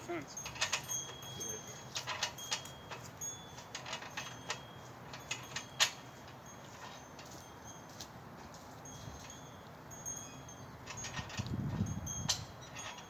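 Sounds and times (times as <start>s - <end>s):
light clicks and clinks: 0.1s - 13.0s.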